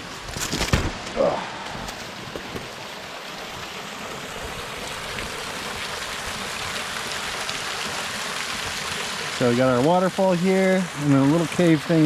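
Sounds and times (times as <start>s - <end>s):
waterfall splashing: 0.7s - 12.0s.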